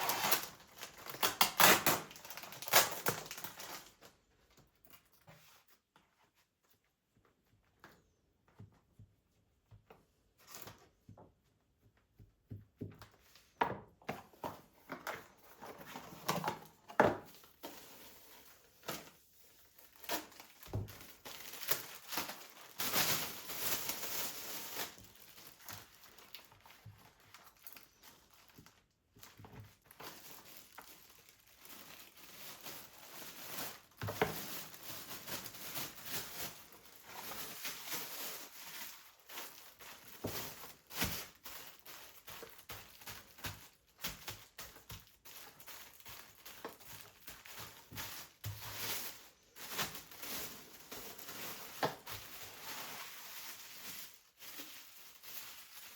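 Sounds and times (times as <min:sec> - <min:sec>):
plastic packaging crinkling: 0:00.0 - 0:05.2, 0:14.4 - 0:55.9.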